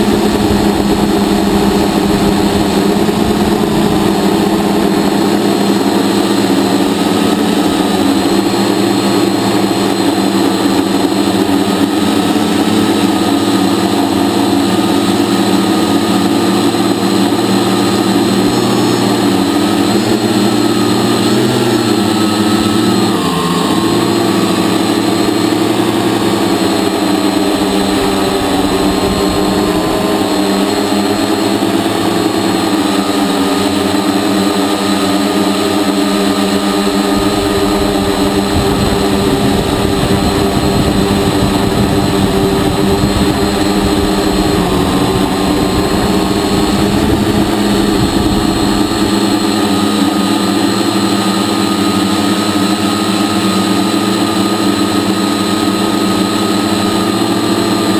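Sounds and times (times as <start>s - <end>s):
drone motors and propellers whining: 0.0s - 57.9s.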